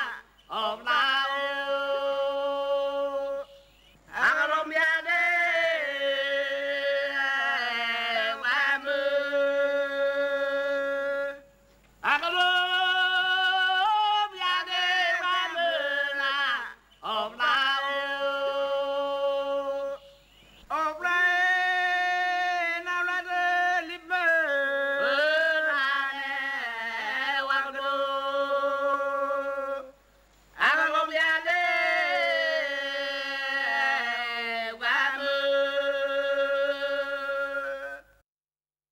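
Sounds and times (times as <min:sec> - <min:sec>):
unaccompanied chanted singing: 0:00.0 - 0:38.2.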